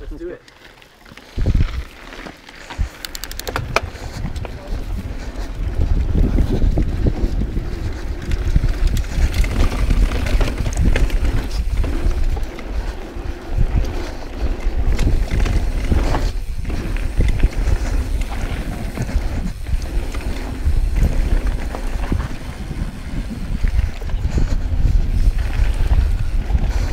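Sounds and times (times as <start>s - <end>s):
bike clicks and rattles: 0.0s - 26.9s
bike rolling on dirt: 0.0s - 26.9s
wind buffeting microphone: 1.3s - 26.9s.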